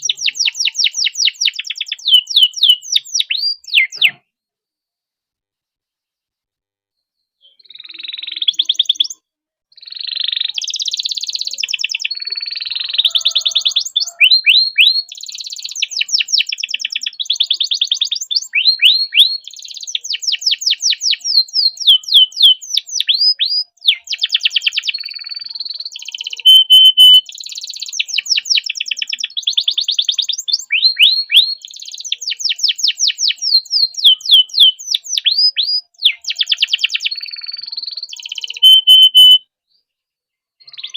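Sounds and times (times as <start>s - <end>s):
canary singing trills: 0.0s - 4.2s, 7.4s - 39.4s, 40.6s - 40.9s.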